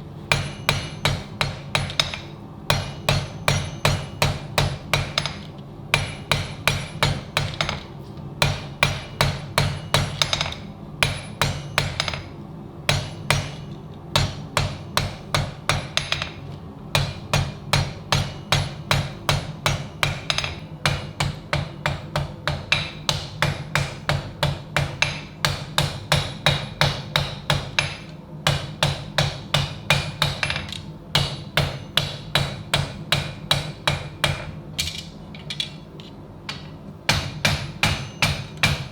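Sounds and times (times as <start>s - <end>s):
steady low hum: 0.0s - 38.9s
hammer striking steel: 0.3s - 12.3s, 12.9s - 35.9s, 36.5s - 38.9s.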